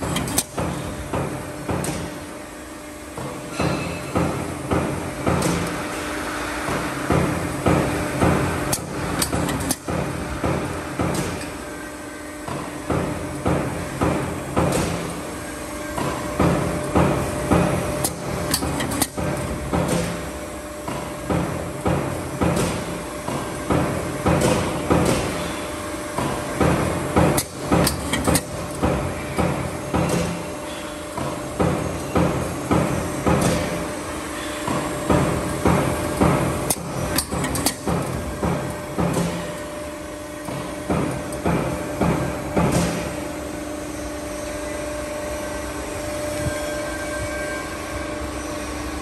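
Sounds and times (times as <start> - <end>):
steady motor hum: 0.0 - 49.0.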